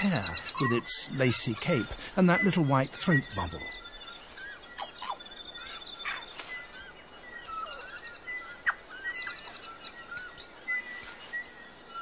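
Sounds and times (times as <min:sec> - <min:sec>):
bird calling: 0:00.0 - 0:12.0
other bird calls: 0:00.0 - 0:12.0.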